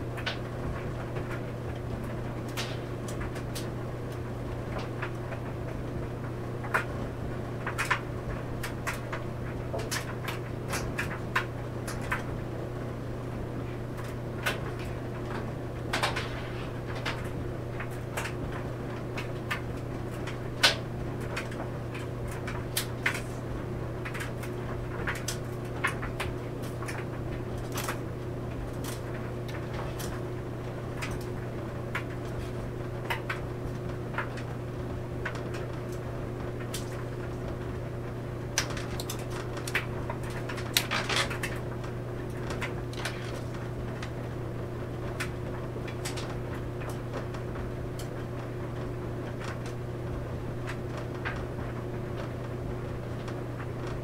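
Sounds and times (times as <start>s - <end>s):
clothes dryer humming: 0.0s - 54.0s.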